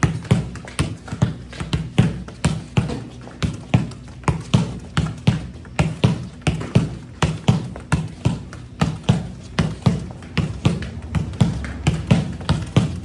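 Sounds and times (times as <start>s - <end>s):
football taps on tiled floor: 0.0s - 13.0s.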